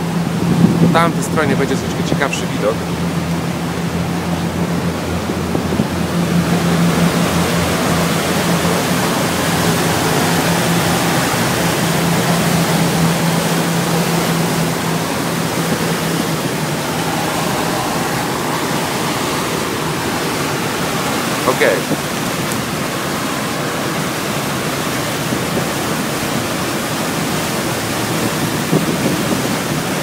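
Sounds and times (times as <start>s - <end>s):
ferry engine humming: 0.0s - 30.0s
wake water rushing: 0.0s - 30.0s.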